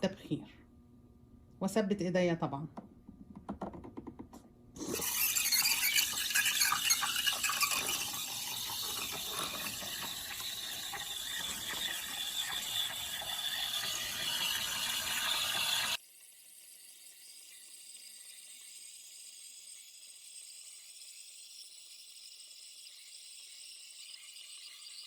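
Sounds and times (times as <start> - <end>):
steam wand hissing in milk: 4.8 - 25.0.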